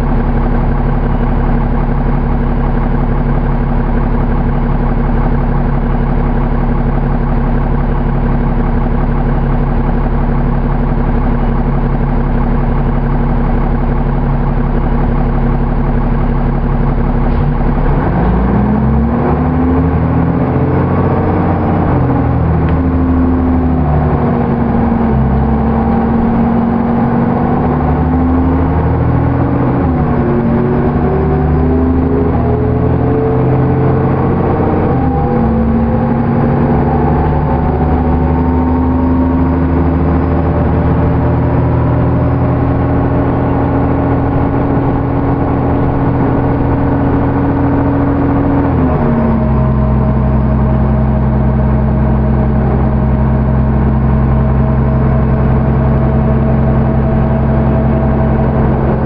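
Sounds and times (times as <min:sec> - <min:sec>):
diesel bus engine: 0:00.0 - 0:59.0.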